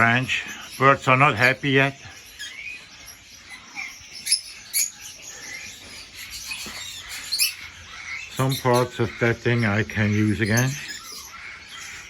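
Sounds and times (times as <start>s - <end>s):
lovebirds chirping and squeaking: 0.0s - 12.0s.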